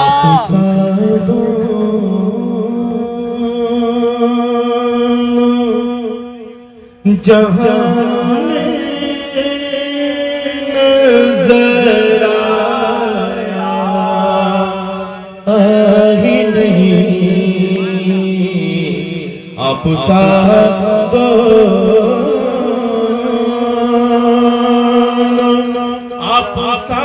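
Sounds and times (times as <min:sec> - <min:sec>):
man chanting melodically: 0:00.0 - 0:27.0.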